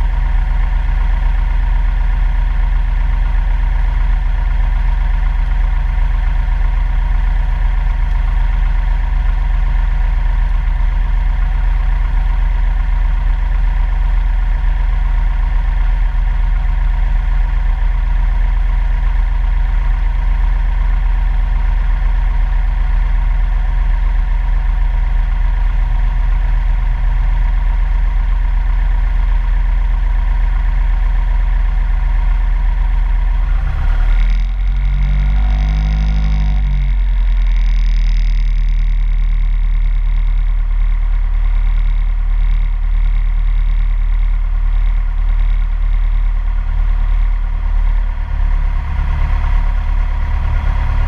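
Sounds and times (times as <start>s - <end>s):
light aircraft engine drone: 0.0s - 51.0s.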